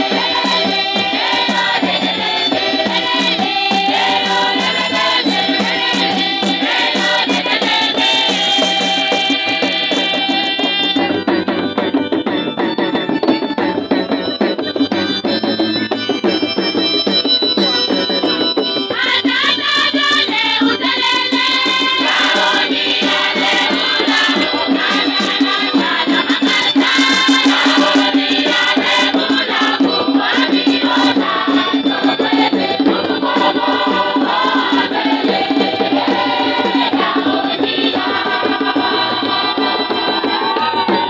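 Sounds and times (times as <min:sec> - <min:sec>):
crowd of women singing a hymn: 0:00.0 - 0:11.3, 0:18.9 - 0:41.0
shaken percussion: 0:00.0 - 0:41.0.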